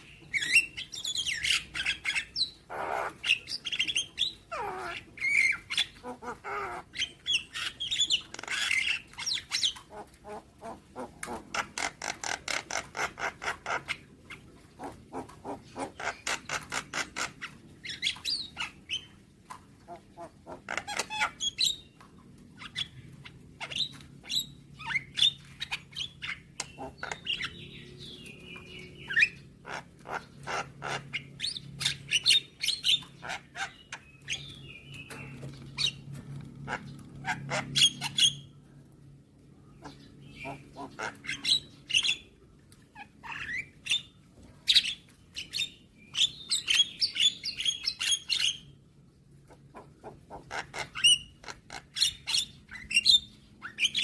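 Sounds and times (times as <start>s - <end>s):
myna bird calling: 0.0s - 19.2s, 22.6s - 38.6s, 39.7s - 48.7s
faint low hum: 0.0s - 54.0s.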